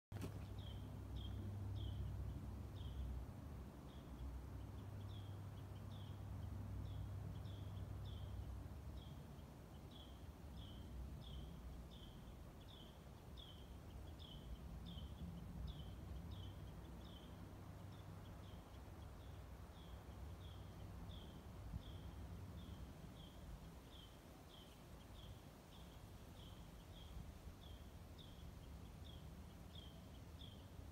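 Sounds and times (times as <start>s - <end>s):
small bird chirping: 0.1s - 30.9s.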